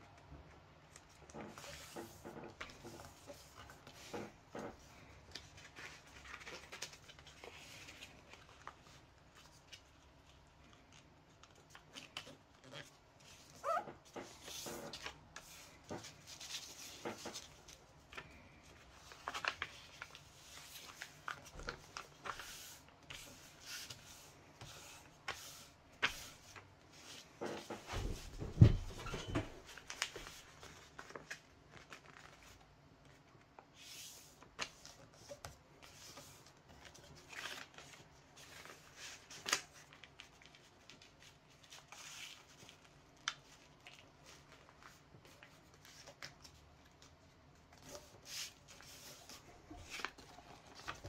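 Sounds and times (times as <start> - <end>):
paper rustling and crinkling: 0.9 - 51.0.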